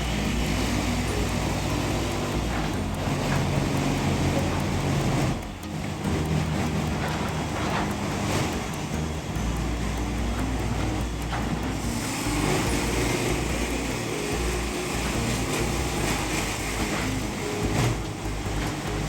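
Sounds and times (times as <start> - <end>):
diesel machinery engine rumble: 0.0 - 19.0.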